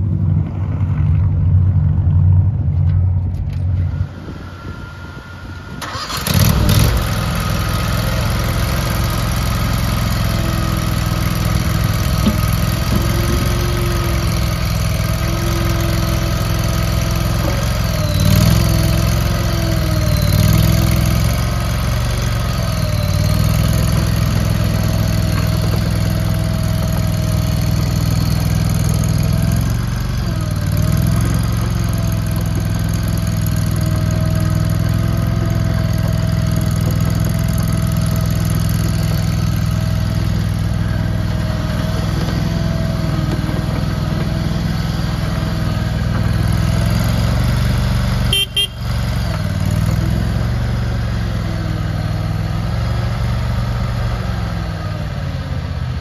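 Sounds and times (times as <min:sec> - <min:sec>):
skid steer engine running: 0:00.0 - 0:56.0.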